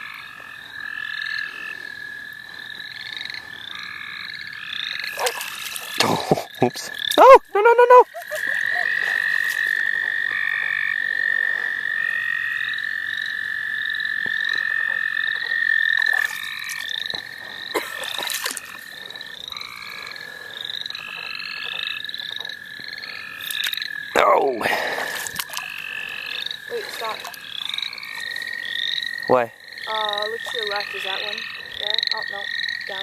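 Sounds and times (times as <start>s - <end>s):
frogs trilling and calling: 0.0s - 33.0s.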